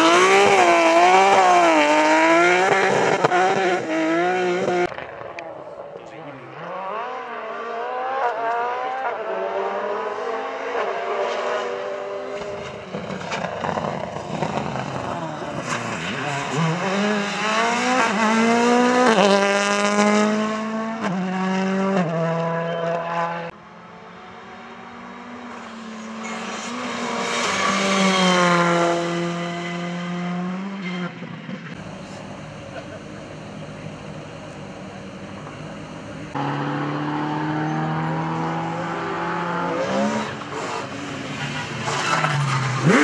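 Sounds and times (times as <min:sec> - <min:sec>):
engine revving with quick upshifts: 0:00.0 - 0:05.0, 0:06.5 - 0:23.6, 0:24.2 - 0:43.0
rally car engines at full throttle: 0:00.0 - 0:43.0.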